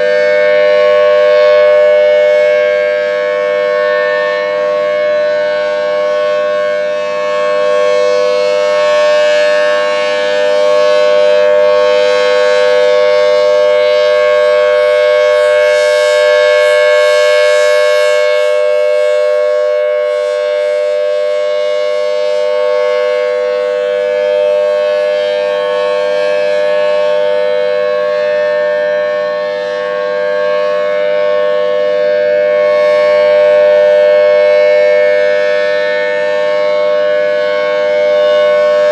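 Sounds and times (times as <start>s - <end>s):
tornado siren two-tone alert: 0.0s - 38.9s.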